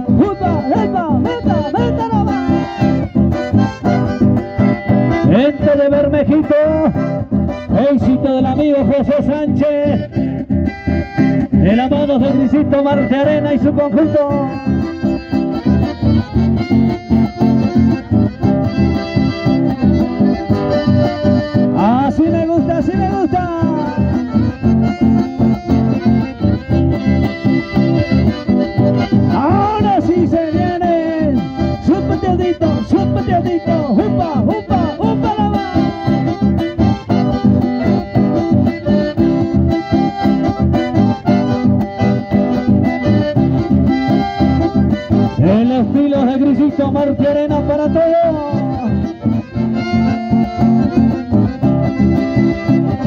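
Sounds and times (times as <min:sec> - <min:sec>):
acoustic guitar: 0:00.0 - 0:53.0
button accordions playing: 0:00.0 - 0:53.0.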